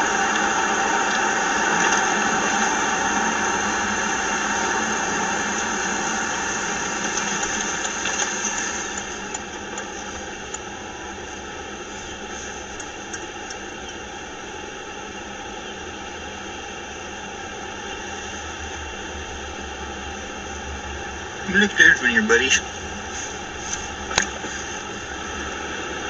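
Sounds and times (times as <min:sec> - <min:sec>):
road and engine noise: 0:00.0 - 0:26.0.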